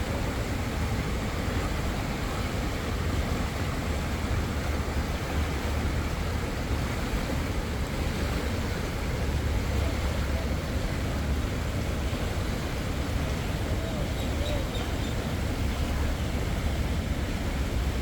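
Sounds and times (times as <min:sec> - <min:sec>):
spring water rushing: 0:00.0 - 0:18.0.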